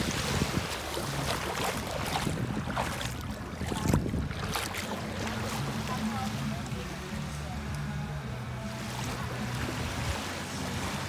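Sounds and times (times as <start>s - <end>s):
feet splashing in shallow water: 0.0s - 11.0s
wind rumble on microphone: 0.0s - 11.0s.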